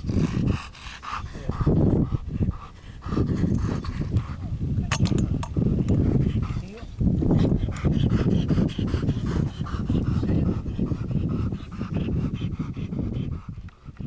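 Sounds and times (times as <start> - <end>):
dog panting: 0.0 - 14.0
wind on microphone: 0.0 - 14.0.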